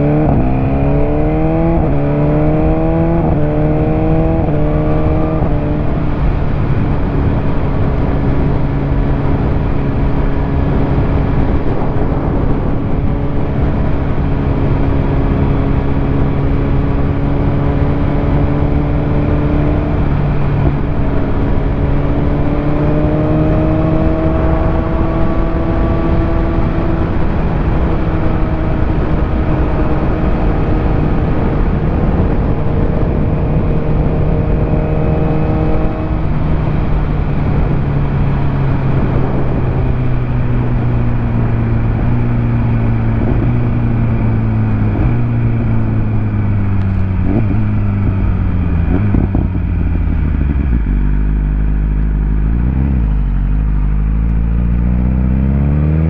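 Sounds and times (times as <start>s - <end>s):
heavy wind noise: 0.0s - 56.0s.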